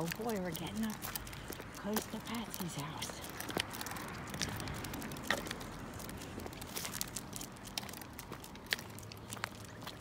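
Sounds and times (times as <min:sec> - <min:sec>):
footsteps clicking and rustling: 0:00.0 - 0:10.0.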